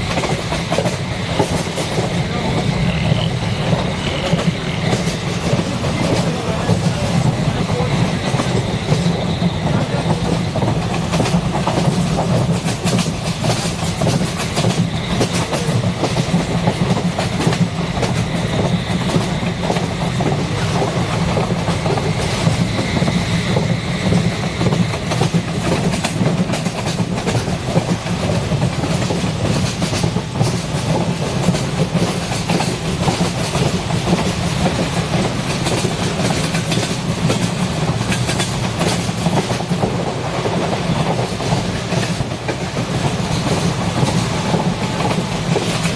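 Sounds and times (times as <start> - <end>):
train rumbling: 0.0 - 45.9
wheels clacking over rails: 0.0 - 45.9.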